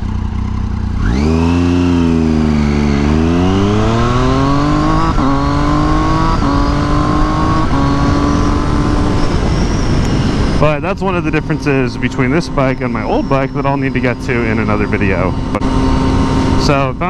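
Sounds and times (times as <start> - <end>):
motorcycle engine accelerating: 0.0 - 17.0
wind rush: 2.1 - 17.0.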